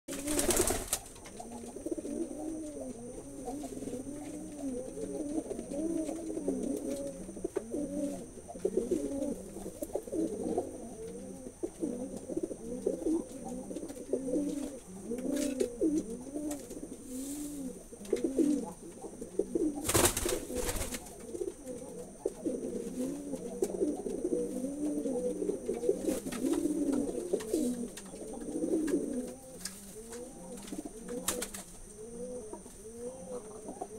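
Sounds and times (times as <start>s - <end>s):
pigeons cooing: 0.1s - 33.9s.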